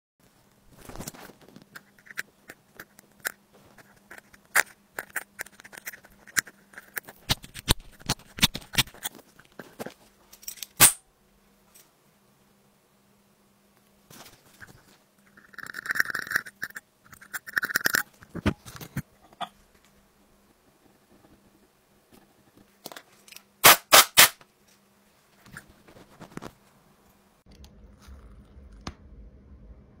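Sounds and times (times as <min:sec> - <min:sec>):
faint steady hum: 0:00.2 - 0:23.7, 0:24.4 - 0:30.0.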